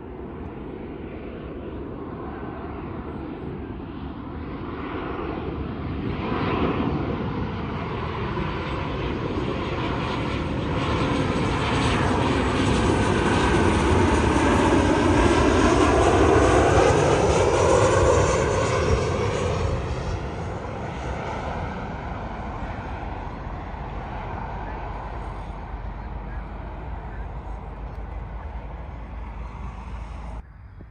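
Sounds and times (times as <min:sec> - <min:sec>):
jet airliner passing: 0:00.0 - 0:30.9.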